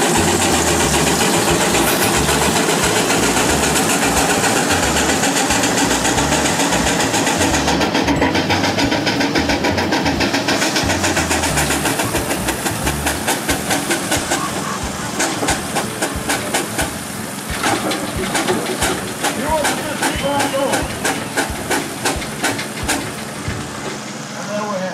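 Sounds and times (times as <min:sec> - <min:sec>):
steady rushing noise: 0:00.0 - 0:24.9
steam engine exhaust chuffing: 0:00.0 - 0:24.9.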